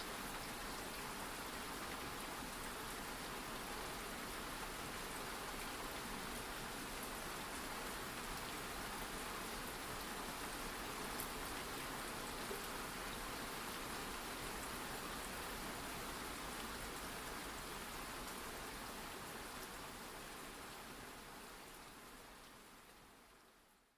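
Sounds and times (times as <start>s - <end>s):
steady rain hiss: 0.0s - 23.9s.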